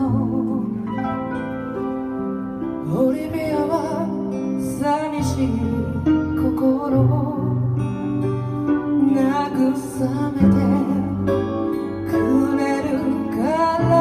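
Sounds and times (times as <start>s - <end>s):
woman singing: 0.0s - 1.3s, 2.8s - 8.2s, 8.9s - 14.0s
acoustic guitar: 0.0s - 14.0s
keyboard: 0.0s - 14.0s.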